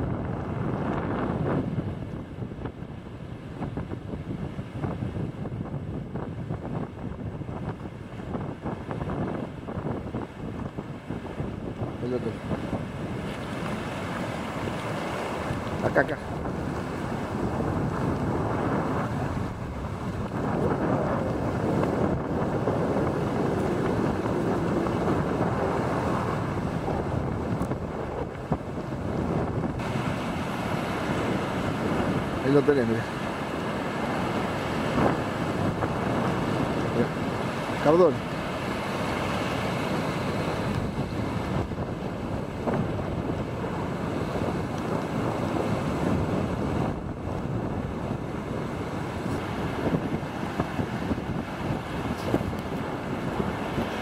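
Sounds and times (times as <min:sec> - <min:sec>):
surf washing onto beach: 0:00.0 - 0:54.0
wind buffeting microphone: 0:00.0 - 0:54.0.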